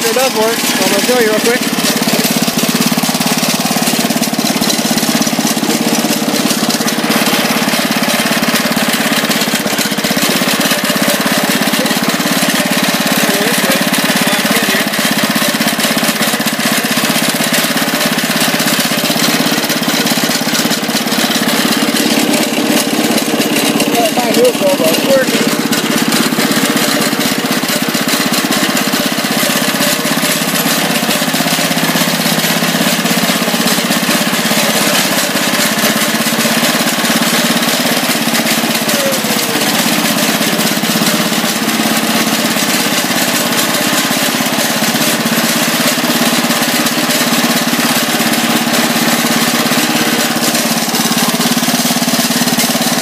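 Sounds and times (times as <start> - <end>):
garden tractor engine running: 0.0 - 53.0
loud mechanical clatter: 0.0 - 53.0.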